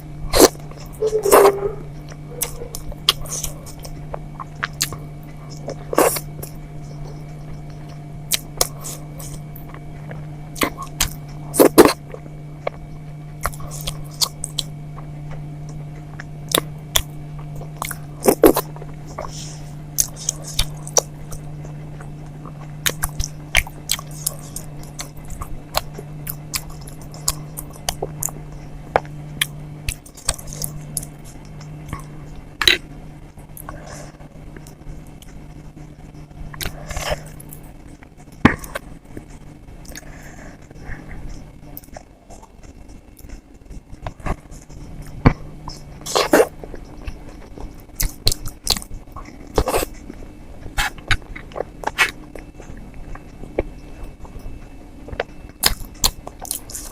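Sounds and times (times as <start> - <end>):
low hum: 0.0 - 56.9
wet chewing: 0.3 - 12.8, 13.4 - 32.8, 34.6 - 56.9.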